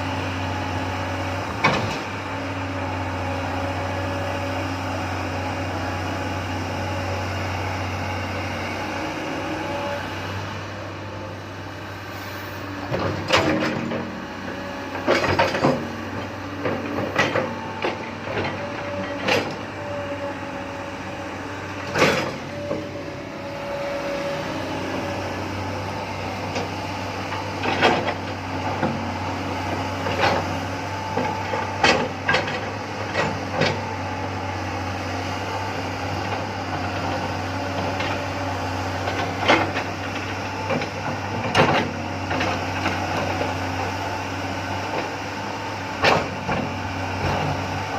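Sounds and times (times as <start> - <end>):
excavator diesel engine droning: 0.0 - 47.9.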